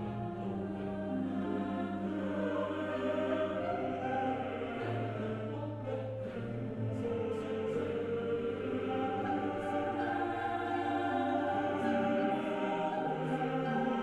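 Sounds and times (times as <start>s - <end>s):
choir holding notes in harmony: 0.0s - 14.0s.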